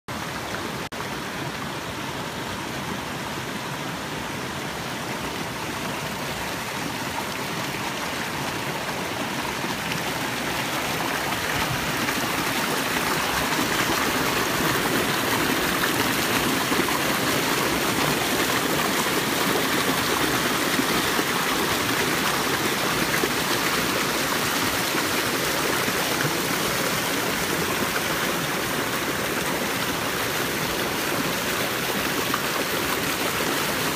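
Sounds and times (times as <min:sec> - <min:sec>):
creek water rushing over rocks: 0:00.1 - 0:33.9.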